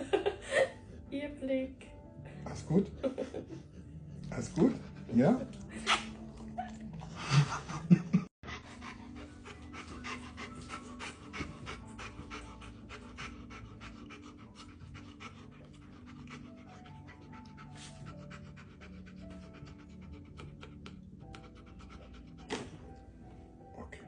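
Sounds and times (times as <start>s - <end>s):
faint background music: 0.0s - 24.0s
dog panting: 3.5s - 23.0s.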